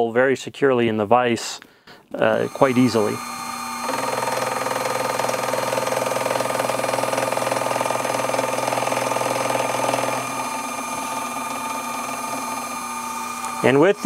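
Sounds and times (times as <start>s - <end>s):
motor and spindle whine: 2.2s - 14.0s
end mill grinding steel: 2.3s - 14.0s.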